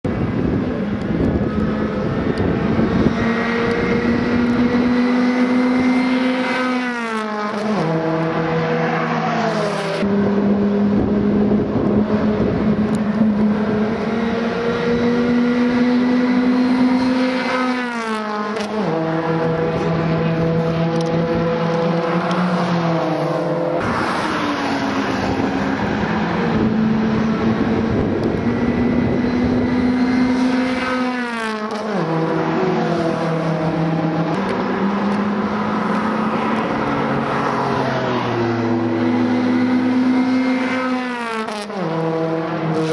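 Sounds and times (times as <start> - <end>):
racing car engine at speed: 0.0 - 42.9.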